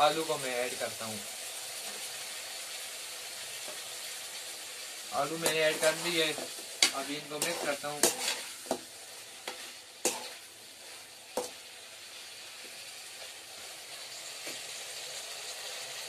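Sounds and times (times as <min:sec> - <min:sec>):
vegetables sizzling in a pot: 0:00.0 - 0:16.0.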